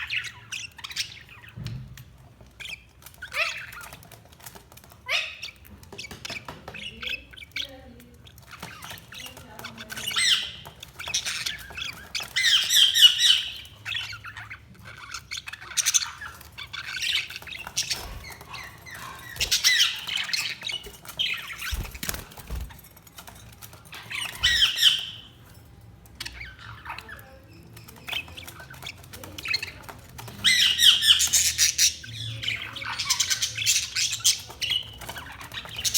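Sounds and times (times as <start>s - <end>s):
budgerigars chattering and squawking: 0.0s - 25.4s, 26.0s - 35.9s
soft bird chirps: 0.0s - 35.9s.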